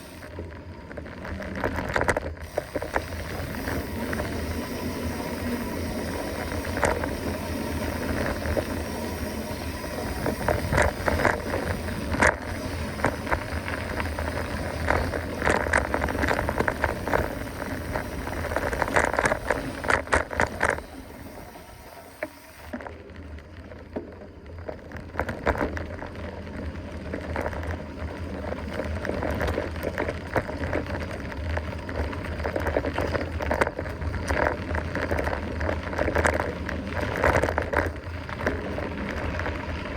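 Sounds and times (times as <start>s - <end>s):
bike rattling clicks and knocks: 0.0s - 22.9s, 24.6s - 39.9s
tyre and wind noise: 0.0s - 39.9s.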